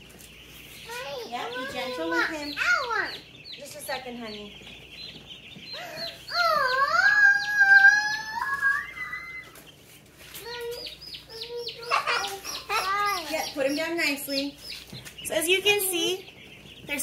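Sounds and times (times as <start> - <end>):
baby chicks peeping: 0.0 - 17.0.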